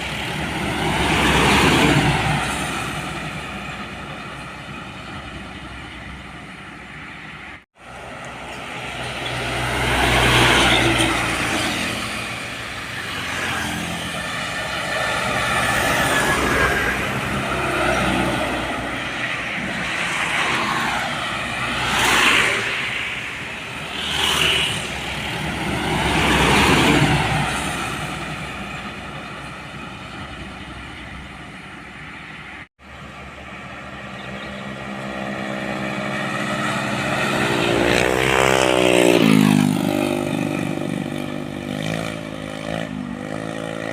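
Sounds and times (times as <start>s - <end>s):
trucks passing: 0.0s - 43.9s.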